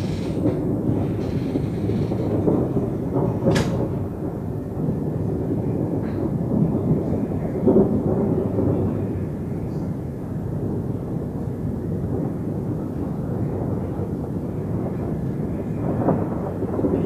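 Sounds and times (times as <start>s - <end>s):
sharp thunder crack: 0.0s - 17.0s
thunder rumbling: 0.0s - 17.0s.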